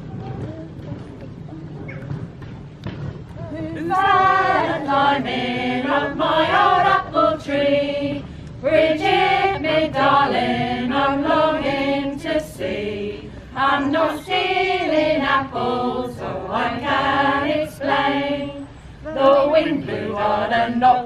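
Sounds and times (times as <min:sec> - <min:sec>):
choir singing unaccompanied: 0:03.5 - 0:21.0.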